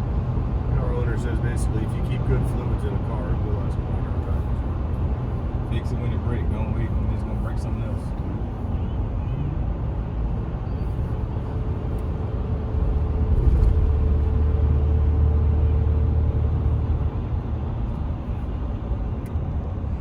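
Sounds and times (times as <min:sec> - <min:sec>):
engine and road rumble in cab: 0:00.0 - 0:20.0.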